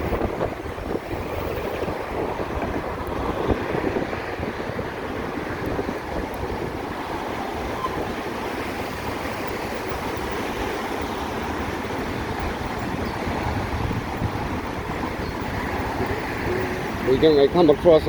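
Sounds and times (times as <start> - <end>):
road noise: 0.0 - 18.0
wind rushing over microphone: 0.0 - 18.0.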